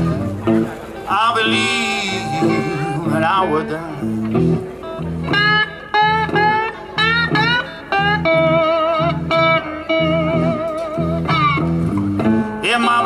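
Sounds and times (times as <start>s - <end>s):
bass-note guitar accompaniment: 0.0s - 13.0s
lead guitar with vibrato: 0.0s - 13.0s.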